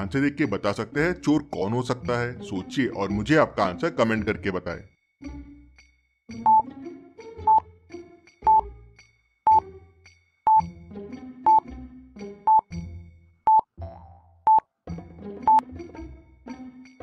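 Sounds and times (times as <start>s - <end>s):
light background music: 0.0s - 17.0s.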